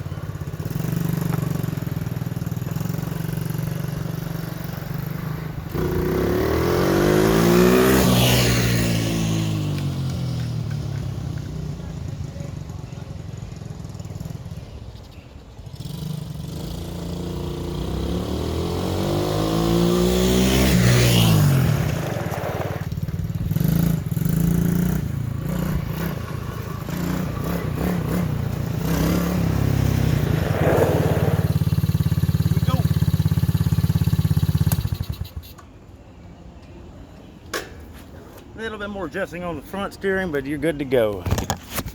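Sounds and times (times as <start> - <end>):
quad bike engine running: 0.0 - 35.6.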